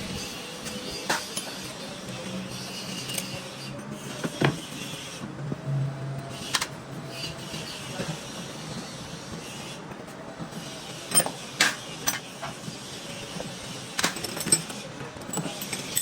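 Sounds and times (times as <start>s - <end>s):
workshop background hum: 0.0s - 16.0s.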